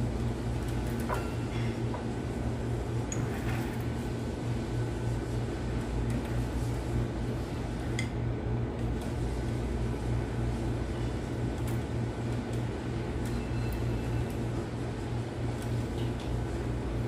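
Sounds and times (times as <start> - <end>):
low pulsing mechanical hum: 0.0 - 17.0.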